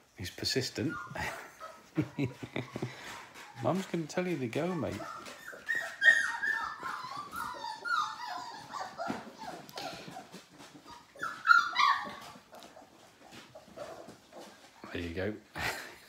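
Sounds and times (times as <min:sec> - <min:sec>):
puppy whining and whimpering: 0:00.7 - 0:03.7, 0:04.5 - 0:14.8.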